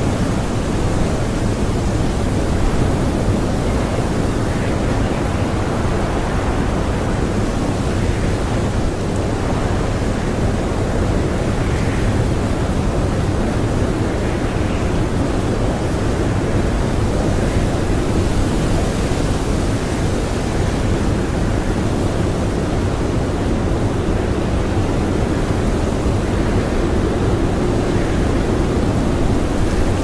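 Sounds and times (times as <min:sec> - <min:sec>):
blizzard wind blowing: 0:00.0 - 0:30.0.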